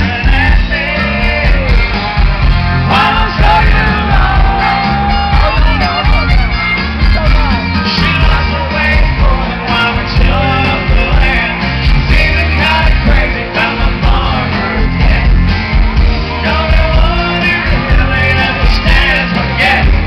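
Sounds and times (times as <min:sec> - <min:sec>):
man singing lead vocals: 0:00.0 - 0:06.4, 0:07.0 - 0:15.6, 0:16.2 - 0:20.0
live country-rock band: 0:00.0 - 0:20.0.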